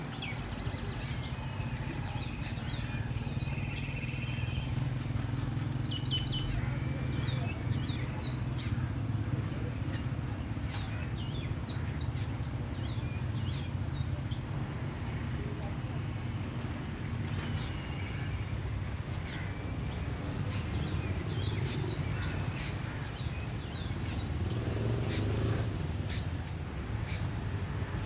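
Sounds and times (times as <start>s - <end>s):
birds chirping: 0.0s - 16.4s, 17.4s - 27.4s.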